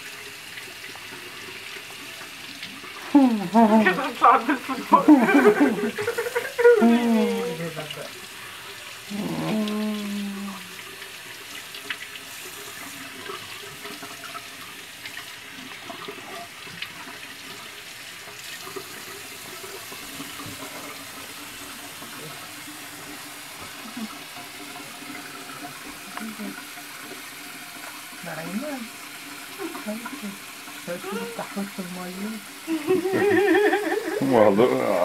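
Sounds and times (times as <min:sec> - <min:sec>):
water running from faucet: 0:00.0 - 0:35.0.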